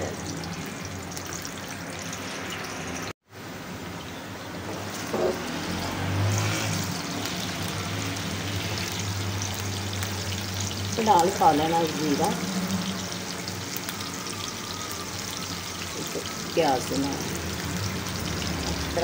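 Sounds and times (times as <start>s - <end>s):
onions sizzling in a frying pan: 0.0s - 19.0s.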